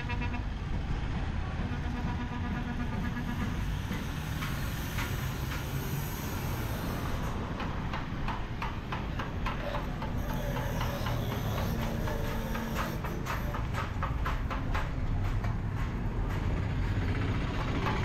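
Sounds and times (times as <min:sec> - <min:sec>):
low traffic rumble: 0:00.0 - 0:18.0
vehicle engines running: 0:00.0 - 0:18.0.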